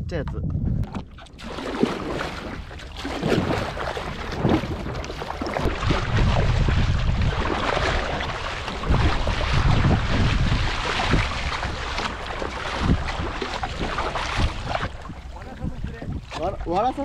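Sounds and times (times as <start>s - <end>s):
wind buffeting microphone: 0.0s - 17.0s
paddle strokes in water: 0.8s - 17.0s
water rushing along hull: 0.8s - 17.0s
water splashing: 0.9s - 17.0s.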